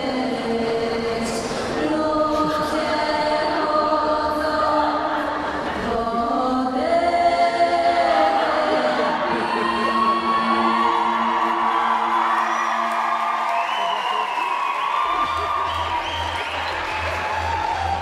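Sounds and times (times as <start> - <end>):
choir holding long notes: 0.0 - 18.0.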